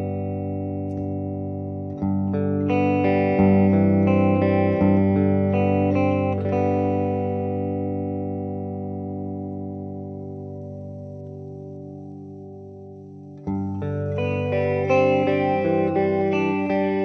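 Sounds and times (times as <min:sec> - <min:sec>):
electric guitar with chorus effect: 0:00.0 - 0:17.0.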